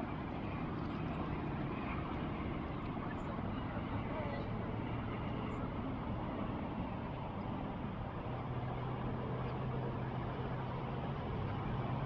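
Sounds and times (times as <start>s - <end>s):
distant road traffic: 0.0s - 12.0s
low engine hum: 0.0s - 12.0s.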